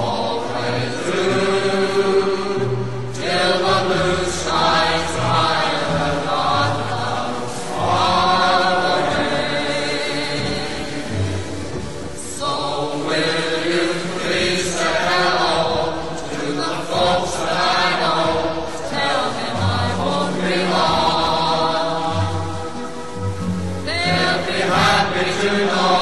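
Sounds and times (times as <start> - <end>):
choir singing chant-like notes: 0.0 - 26.0.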